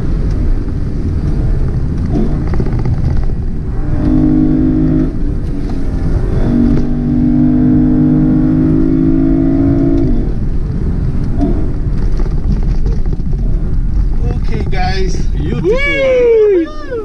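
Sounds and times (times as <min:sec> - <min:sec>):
car engine pulling under throttle: 0:00.0 - 0:15.6
tyre and road noise: 0:00.0 - 0:17.0.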